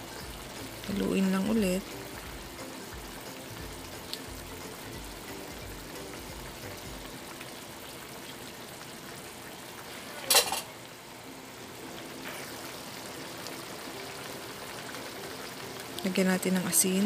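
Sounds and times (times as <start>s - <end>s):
sauce bubbling in a frying pan: 0.0s - 17.0s.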